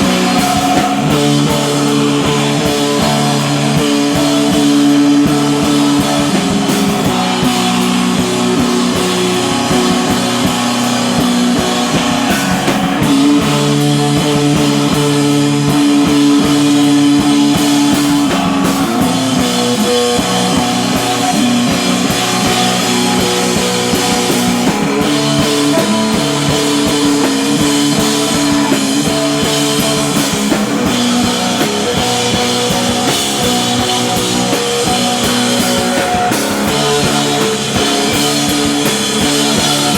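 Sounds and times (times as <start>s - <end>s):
bass guitar: 0.0s - 39.9s
distorted electric guitar chords: 0.0s - 39.9s
drum kit with cymbals: 0.0s - 39.9s.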